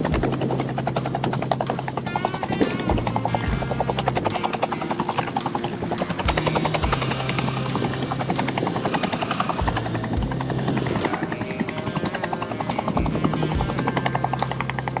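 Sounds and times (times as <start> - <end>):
helicopter rotor blades slapping: 0.0 - 15.0.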